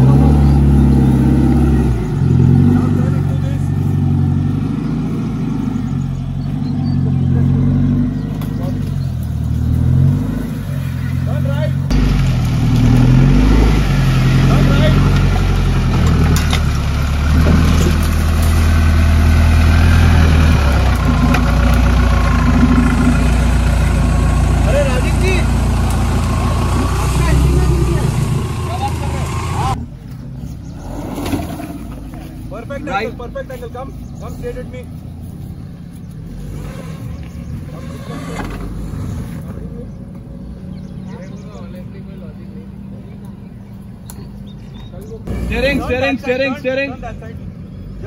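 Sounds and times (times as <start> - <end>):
vehicle engine running low: 0.0 - 48.0.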